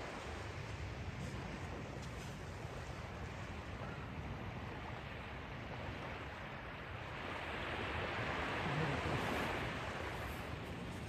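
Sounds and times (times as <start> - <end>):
small waves washing onto sand: 0.0 - 11.0.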